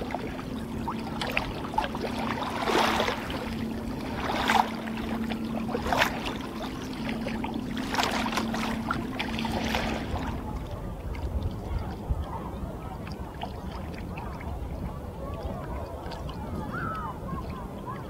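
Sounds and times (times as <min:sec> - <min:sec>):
paddle strokes splashing: 0:00.0 - 0:18.0
small waves washing: 0:00.0 - 0:18.0.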